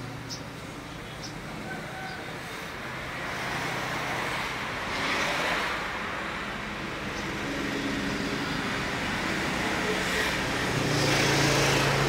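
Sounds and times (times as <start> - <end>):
road traffic noise: 0.0 - 12.0
vehicle passing: 2.2 - 12.0.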